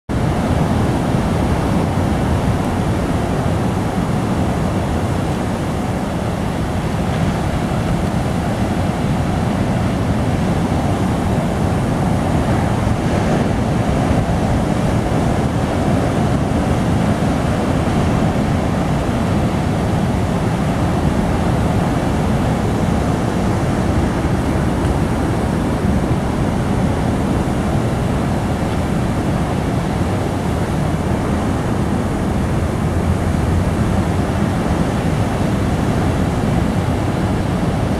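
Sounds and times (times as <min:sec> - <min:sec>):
ocean surf breaking: 0:00.1 - 0:37.9
wind rumbling on microphone: 0:00.1 - 0:37.9.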